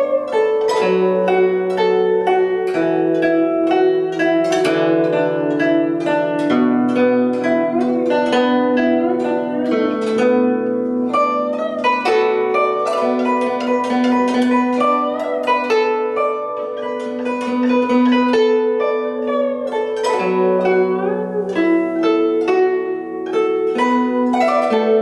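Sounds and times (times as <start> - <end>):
zither plucked melody: 0.0 - 25.0.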